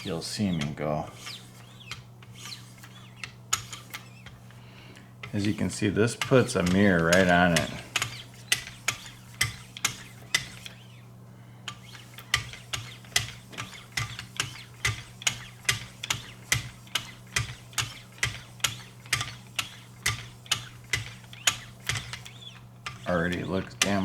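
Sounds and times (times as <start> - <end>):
paddle stroking blade edge clicks: 0.0 - 4.6, 5.2 - 11.0, 11.7 - 24.0.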